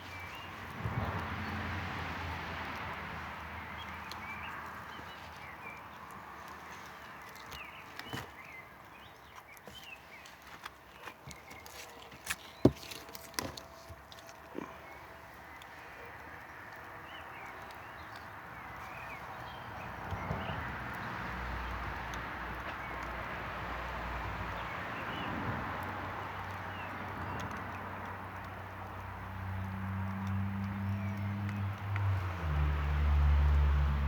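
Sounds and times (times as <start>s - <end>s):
campfire wood crackling: 0.0s - 34.0s.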